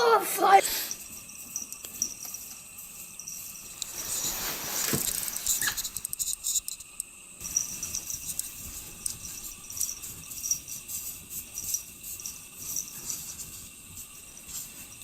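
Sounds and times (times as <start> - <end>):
faint hiss: 0.0 - 15.0
insects chirping: 0.0 - 15.0.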